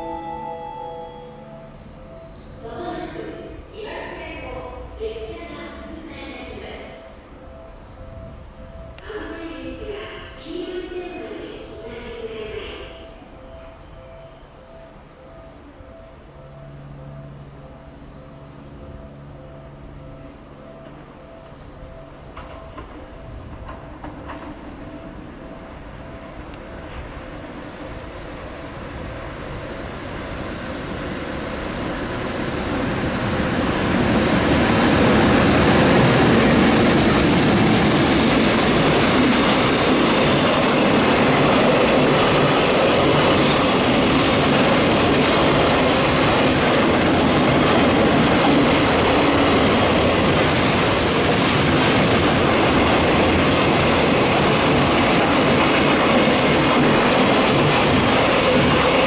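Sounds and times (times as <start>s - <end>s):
freight train wheel noise: 0.0s - 59.0s.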